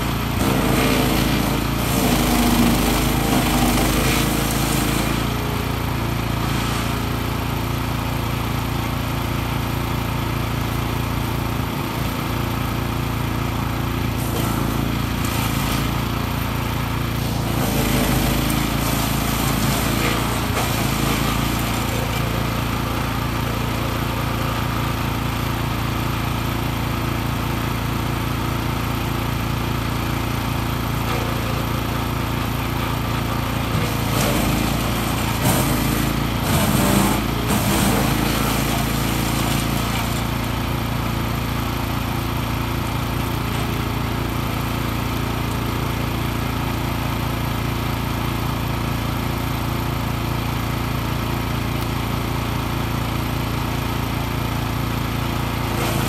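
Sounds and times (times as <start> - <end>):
wood chipper engine running: 0.0 - 56.0.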